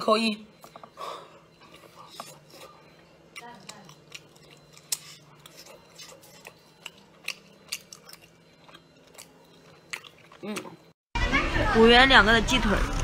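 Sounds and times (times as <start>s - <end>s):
person chewing food: 0.5s - 11.0s.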